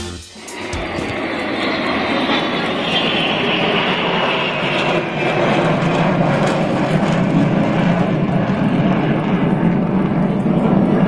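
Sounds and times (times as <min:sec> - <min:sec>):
jet engines roaring: 0:00.3 - 0:11.0.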